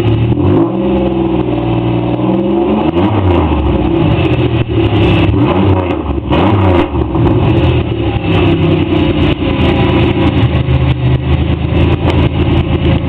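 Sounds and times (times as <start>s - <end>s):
loud car exhaust revving and idling: 0.0s - 13.0s.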